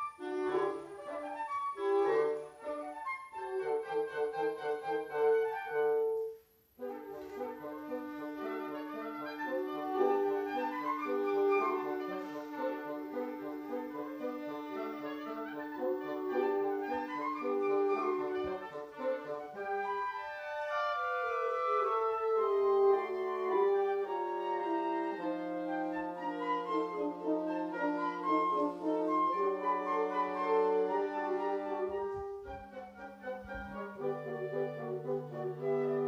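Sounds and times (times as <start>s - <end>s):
wind quintet playing classical music: 0.0s - 36.0s.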